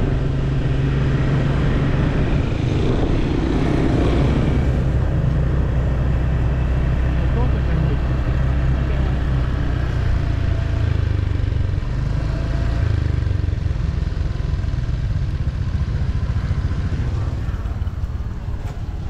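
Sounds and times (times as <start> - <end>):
road noise: 0.0 - 19.0
vehicle engine rumbling: 0.0 - 19.0.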